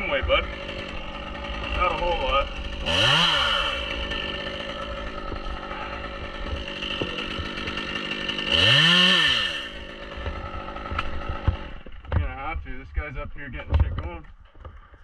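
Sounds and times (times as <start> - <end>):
chainsaw idling and revving: 0.0 - 12.5.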